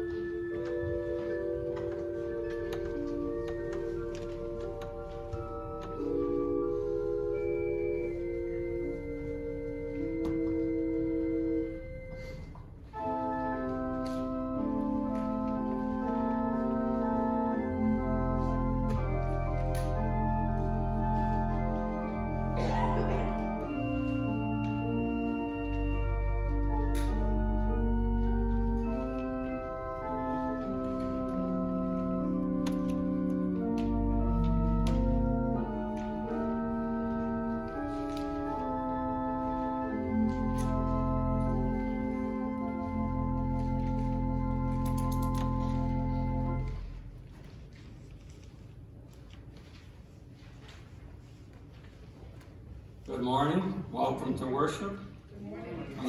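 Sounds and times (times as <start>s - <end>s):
slow organ chords: 0.0s - 47.4s.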